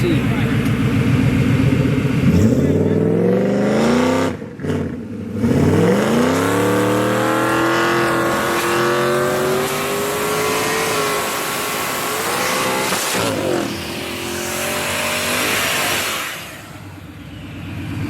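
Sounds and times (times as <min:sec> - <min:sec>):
car engines at full throttle: 0:00.0 - 0:18.0.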